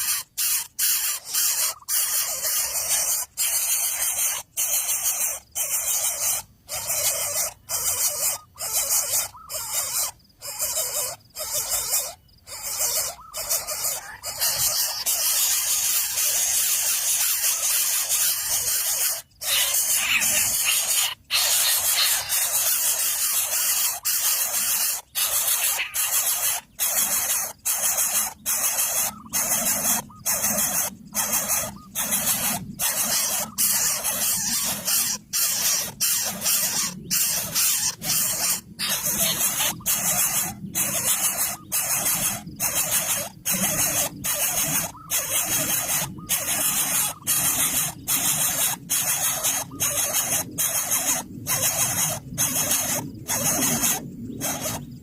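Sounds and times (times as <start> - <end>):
harsh hissing animal squeals: 0.0 - 55.0.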